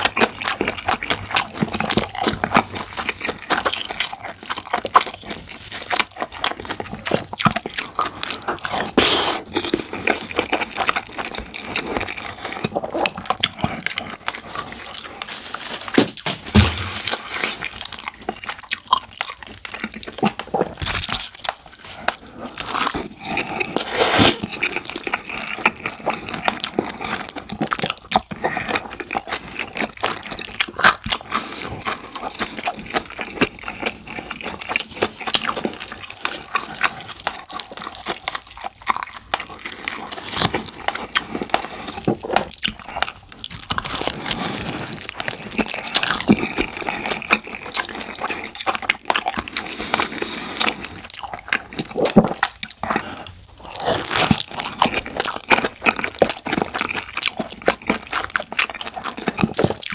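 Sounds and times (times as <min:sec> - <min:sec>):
wet chewing sounds: 0:00.0 - 0:59.9.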